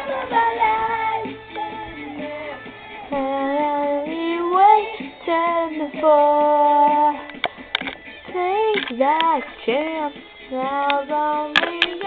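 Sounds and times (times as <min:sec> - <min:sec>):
girl singing: 0:00.0 - 0:07.3, 0:08.3 - 0:12.0.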